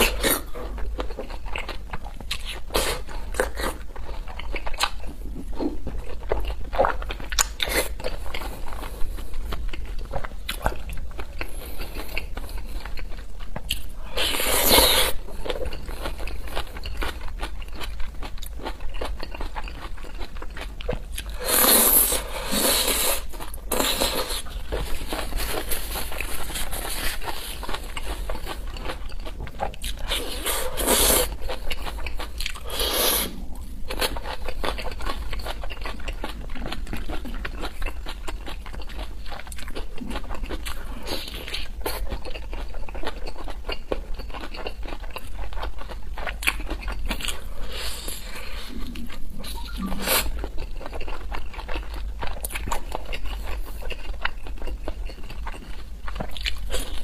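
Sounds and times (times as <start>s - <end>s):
steady low hum: 0.0s - 57.0s
wet crackly chewing: 0.0s - 57.0s.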